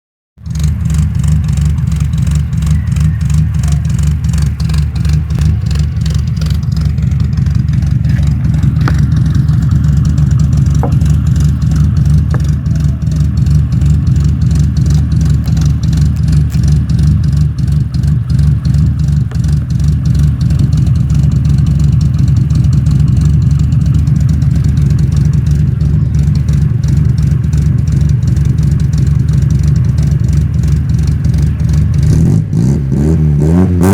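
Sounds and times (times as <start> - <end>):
car engine idling: 0.4 - 33.8.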